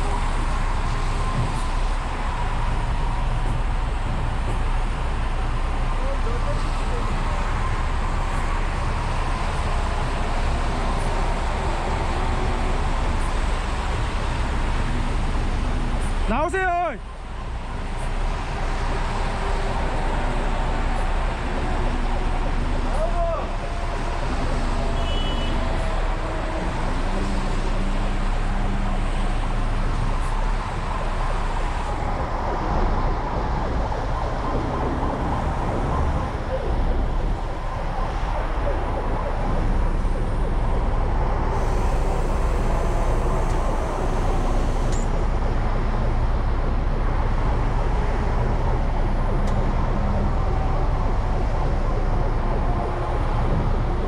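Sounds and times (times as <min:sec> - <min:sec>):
diesel engine running: 0:00.0 - 0:54.0
road noise: 0:00.0 - 0:54.0.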